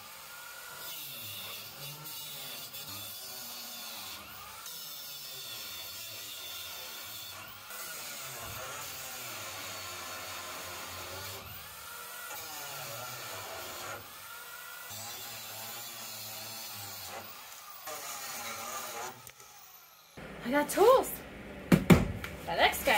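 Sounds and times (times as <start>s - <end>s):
angle grinder grinding metal: 0.0s - 20.2s.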